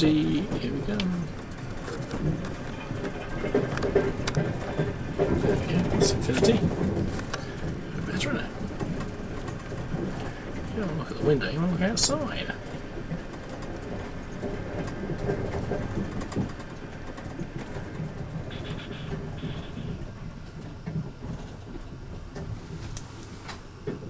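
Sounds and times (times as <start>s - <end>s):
clicks from train wheels: 0.0s - 24.0s
train rumbling along track: 0.0s - 24.0s.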